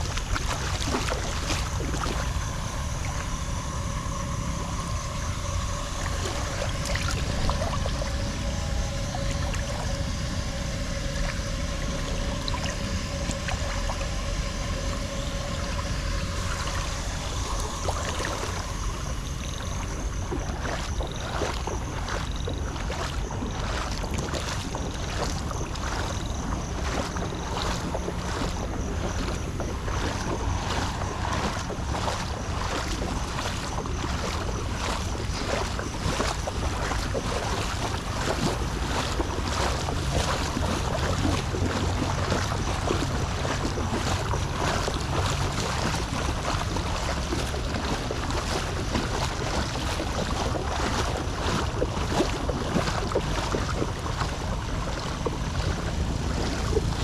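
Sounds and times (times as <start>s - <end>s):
floodwater rushing: 0.0s - 57.0s
wind buffeting microphone: 0.0s - 57.0s.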